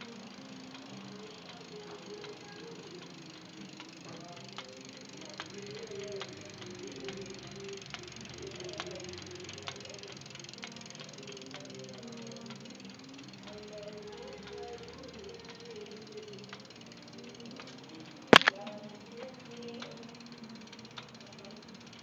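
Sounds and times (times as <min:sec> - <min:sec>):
bicycle wheel knocking: 0:00.0 - 0:22.0.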